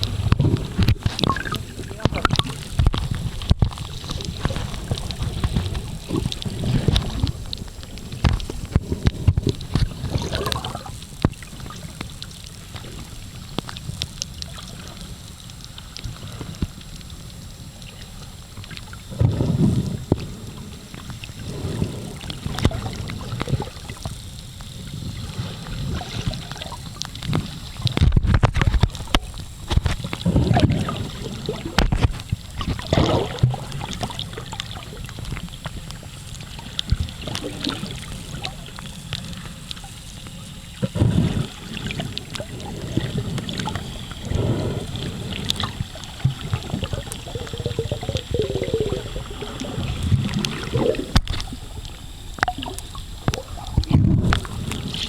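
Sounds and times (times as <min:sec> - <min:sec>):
crackles: 0:00.0 - 0:55.0
muffled underwater sloshing: 0:00.0 - 0:55.0.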